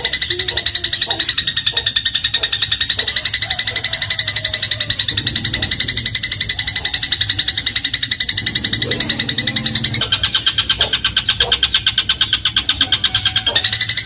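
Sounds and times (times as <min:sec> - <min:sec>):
sparrow chattering trill: 0:00.0 - 0:14.0.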